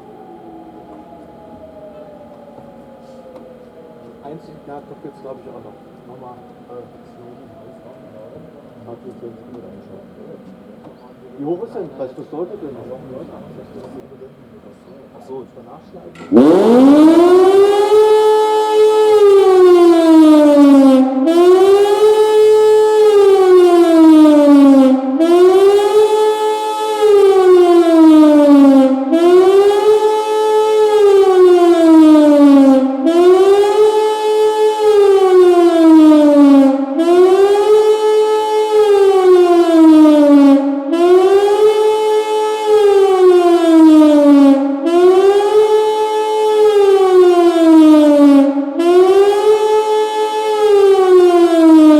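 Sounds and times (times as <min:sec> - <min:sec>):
wailing siren: 0:00.0 - 0:14.0, 0:16.2 - 0:51.9.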